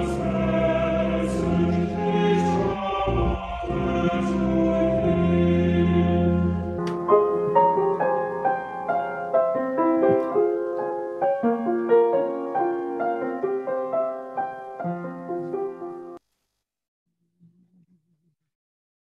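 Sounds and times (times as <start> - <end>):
solo piano hymn tune: 0.0 - 16.2.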